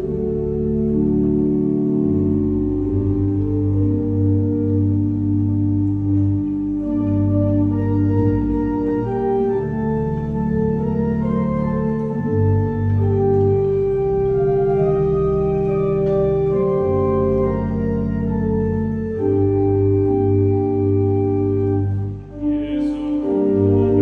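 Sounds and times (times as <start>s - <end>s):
pipe organ playing a hymn: 0.0s - 24.0s.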